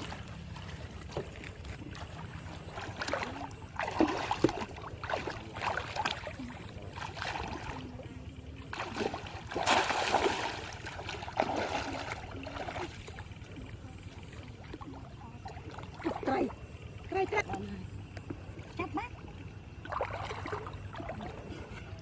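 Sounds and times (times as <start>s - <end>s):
shallow water splashing: 0.0s - 22.0s.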